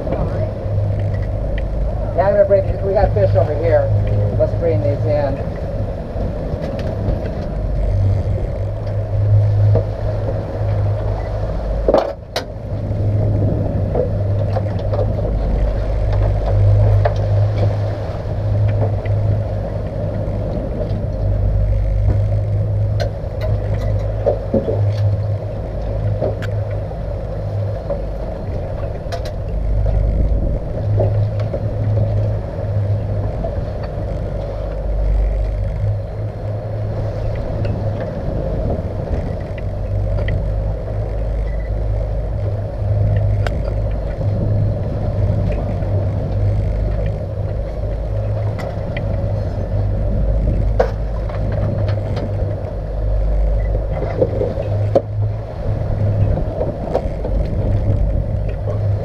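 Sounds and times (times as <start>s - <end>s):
outboard motors rumbling: 0.0s - 59.0s
water wash: 0.0s - 59.0s.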